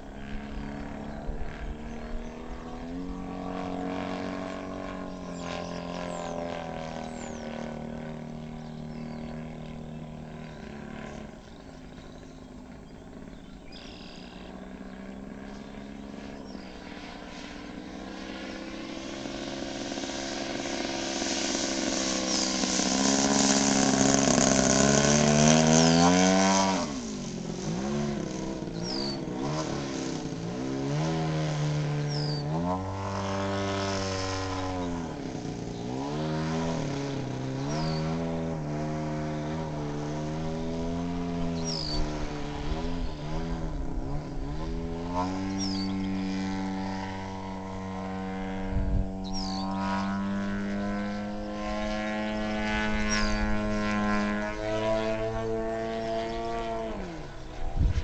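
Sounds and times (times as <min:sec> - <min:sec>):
model plane engine in flight: 0:00.0 - 0:58.0.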